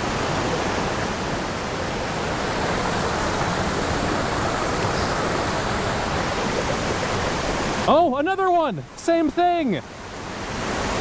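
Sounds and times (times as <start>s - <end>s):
stream and waterfall rushing: 0.0s - 11.0s.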